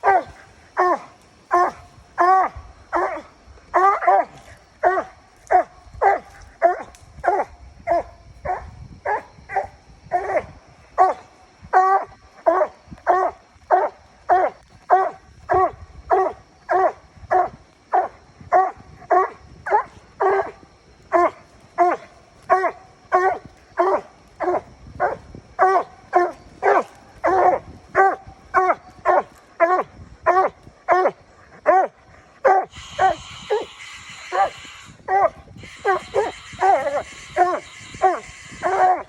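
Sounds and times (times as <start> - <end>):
dog barking: 0.0 - 11.2, 11.8 - 39.0.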